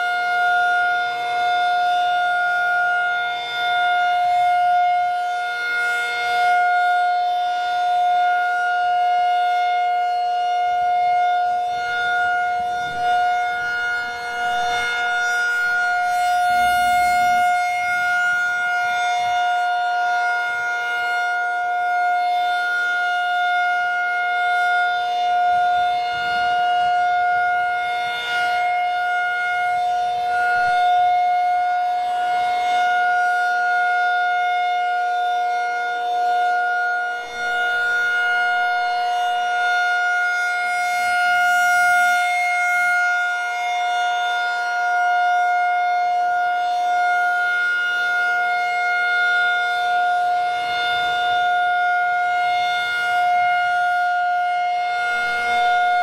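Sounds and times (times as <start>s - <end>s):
electronic siren steady tone: 0.0s - 56.0s.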